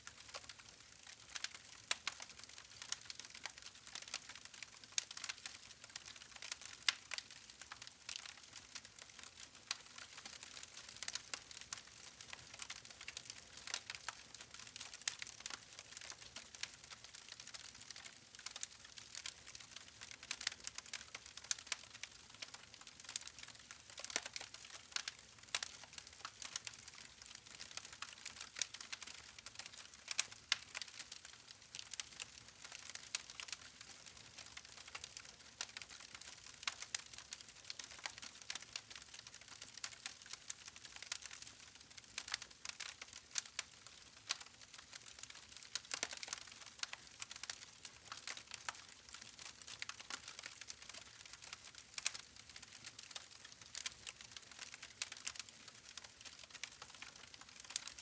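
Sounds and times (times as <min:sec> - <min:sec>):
wood fire crackling: 0:00.2 - 0:58.0.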